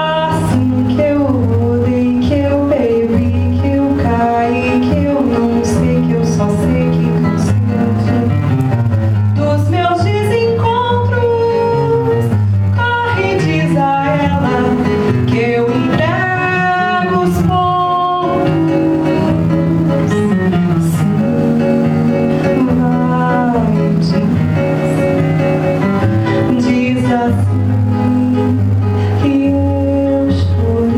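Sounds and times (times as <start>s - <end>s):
woman singing: 0.0s - 8.4s, 9.3s - 30.9s
acoustic guitar: 0.0s - 30.9s.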